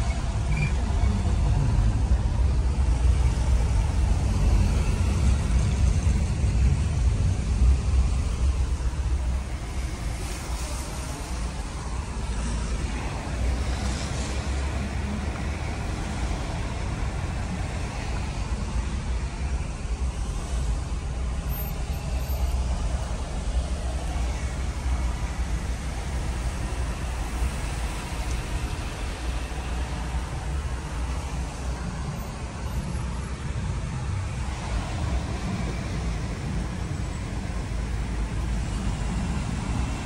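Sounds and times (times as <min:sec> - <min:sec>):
deep traffic rumble: 0:00.0 - 0:40.0
traffic hiss in heavy rain: 0:00.0 - 0:40.0.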